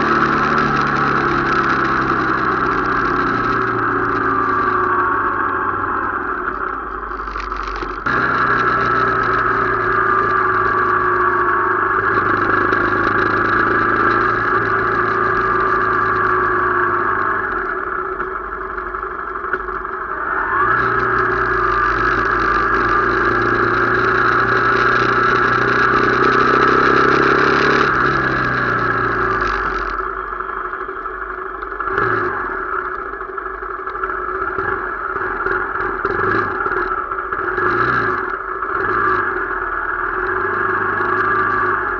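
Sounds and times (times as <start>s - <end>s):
vehicle engine under load: 0.0s - 41.9s.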